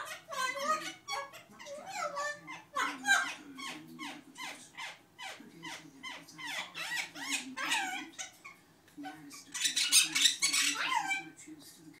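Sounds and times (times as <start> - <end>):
parrots squawking: 0.0 - 11.4.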